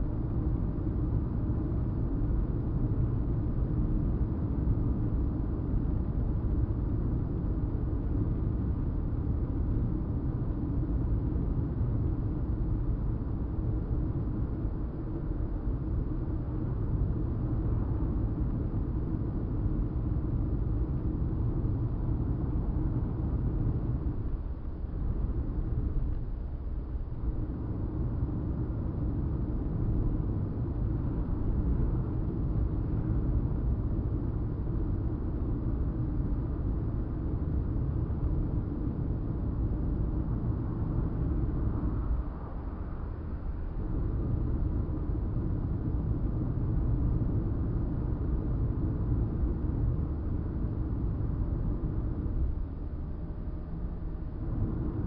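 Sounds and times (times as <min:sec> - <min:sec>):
car engine and tyre rumble: 0:00.1 - 0:55.0.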